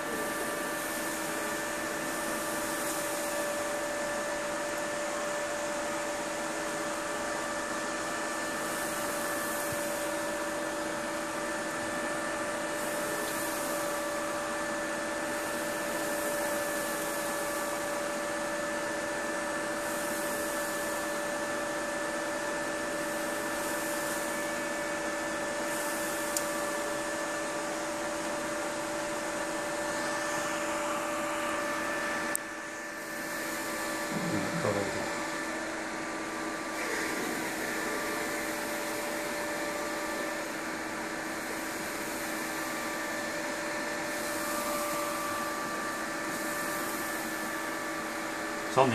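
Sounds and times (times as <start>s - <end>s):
cooling fans whirring: 0.0s - 48.9s.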